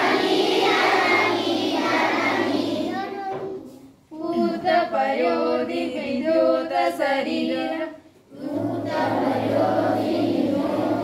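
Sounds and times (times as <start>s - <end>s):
girls singing together: 0.0s - 11.0s.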